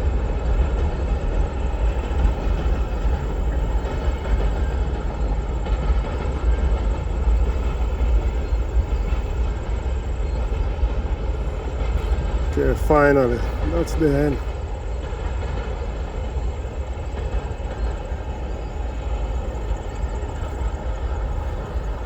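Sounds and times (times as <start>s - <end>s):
train rumbling and clattering past: 0.0s - 22.0s.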